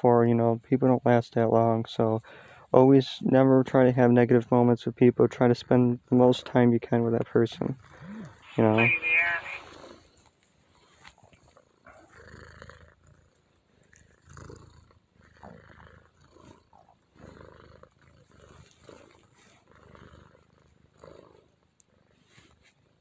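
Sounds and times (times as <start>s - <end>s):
cat purring: 0.1s - 23.0s.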